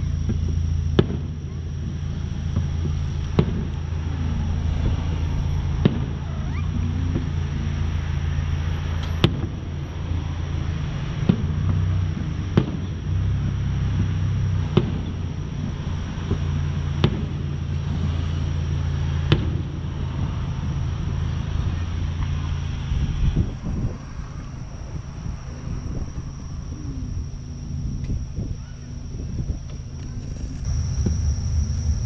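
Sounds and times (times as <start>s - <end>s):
distant fireworks bangs: 0.0s - 26.4s, 29.2s - 32.0s
road traffic rumble: 0.0s - 32.0s.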